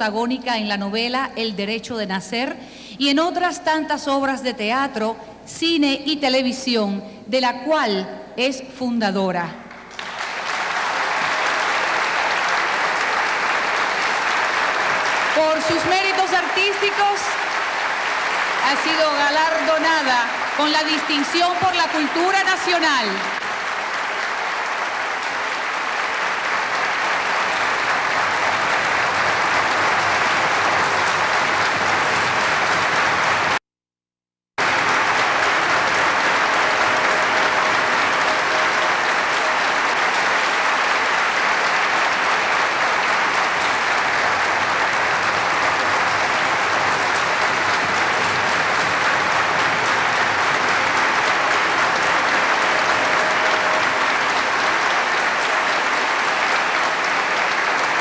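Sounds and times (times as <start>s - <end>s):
audience applauding: 9.7s - 33.6s, 34.6s - 58.0s.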